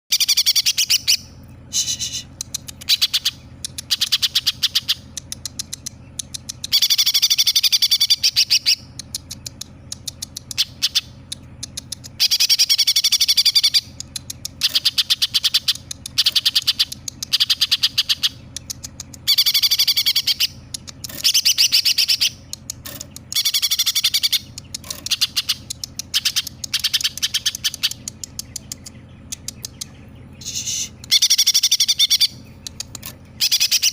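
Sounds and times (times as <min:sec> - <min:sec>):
bird singing chattering phrases: 0:00.1 - 0:33.9.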